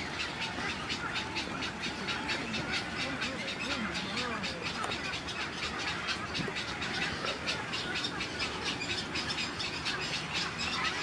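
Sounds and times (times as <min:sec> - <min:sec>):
high bird chirps chattering: 0:00.0 - 0:11.0.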